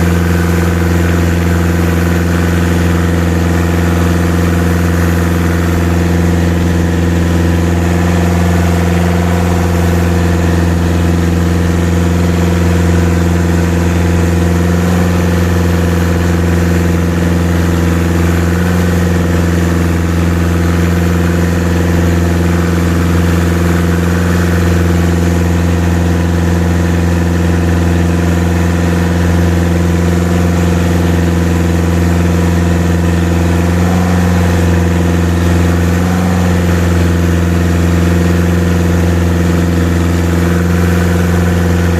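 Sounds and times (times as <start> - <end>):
boat engine droning: 0.0 - 41.9.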